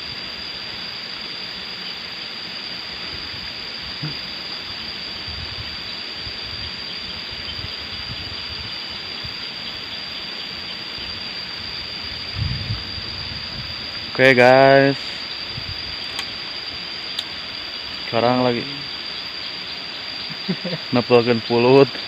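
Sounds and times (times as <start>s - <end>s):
constant high-pitched tone: 0.0s - 22.0s.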